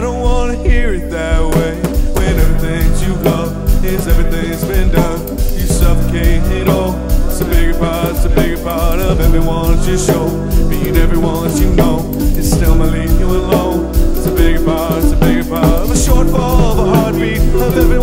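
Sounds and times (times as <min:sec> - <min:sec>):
band with steady bass line: 0:00.0 - 0:18.0
person singing: 0:00.0 - 0:18.0.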